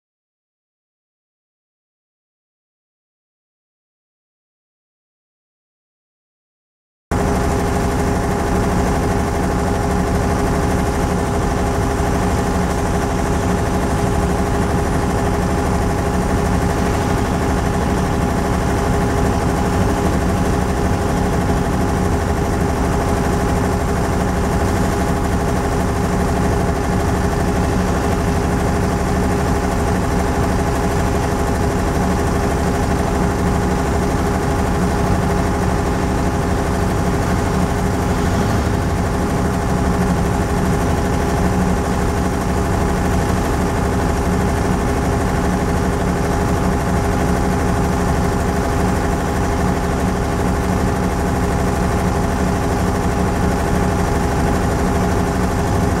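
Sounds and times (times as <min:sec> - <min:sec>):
engine idling: 0:07.2 - 0:56.0.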